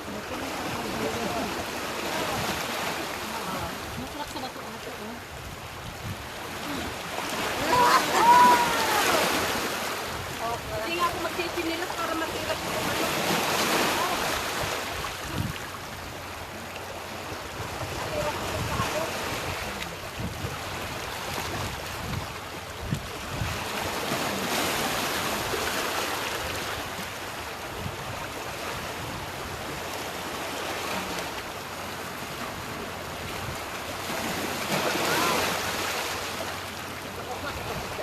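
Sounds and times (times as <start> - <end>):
surf washing onto shore: 0.0 - 38.0.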